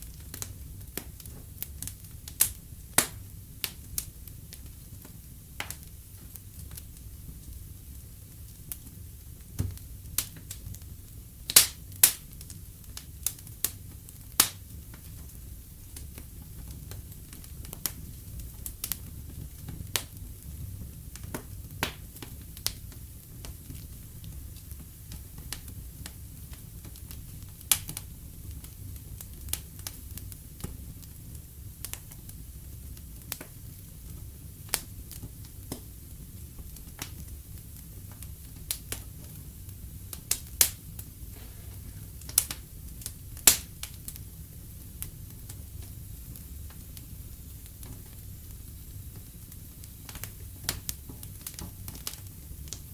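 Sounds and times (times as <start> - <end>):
low rumble of flames: 0.0 - 52.9
wood fire crackling and popping: 0.0 - 52.9.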